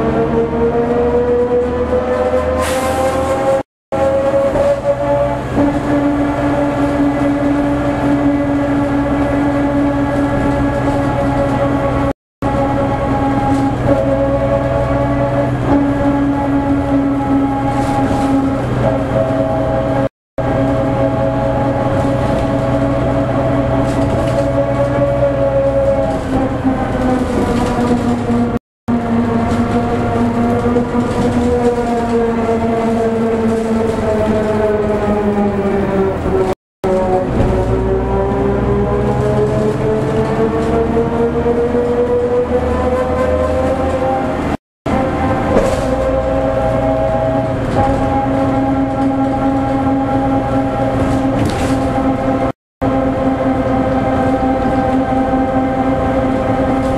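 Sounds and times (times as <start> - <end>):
bus gears whining: 0.0 - 56.9
diesel engine drone: 0.0 - 56.9.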